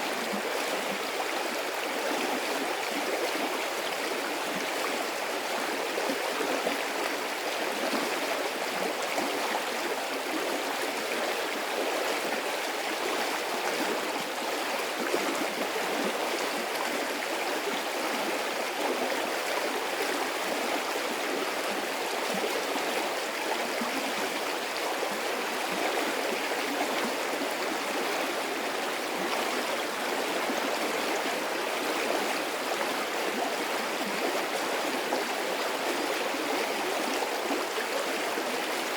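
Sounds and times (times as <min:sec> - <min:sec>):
stream water burbling: 0:00.0 - 0:38.9.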